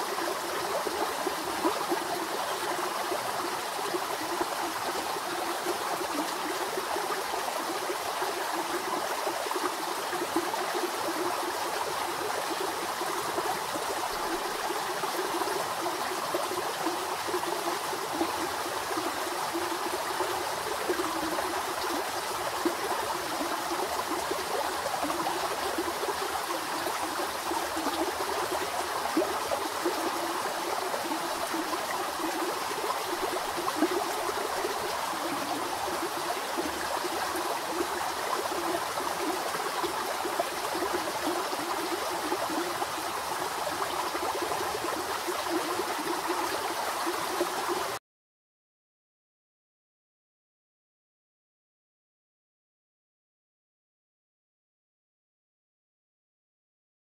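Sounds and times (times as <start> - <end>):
river babbling over stones: 0.0 - 48.0.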